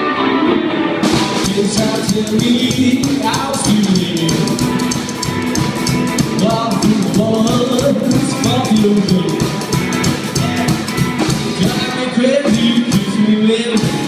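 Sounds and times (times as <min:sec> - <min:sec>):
electric guitar: 0:00.0 - 0:14.0
upright double bass: 0:01.1 - 0:14.0.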